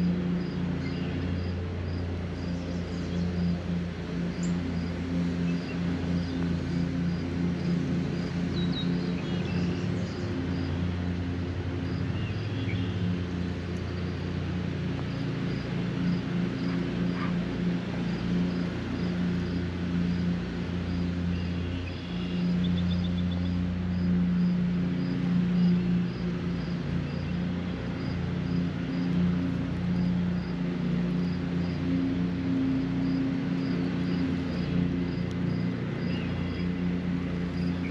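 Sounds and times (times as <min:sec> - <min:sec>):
low steady motor hum: 0:00.0 - 0:37.9.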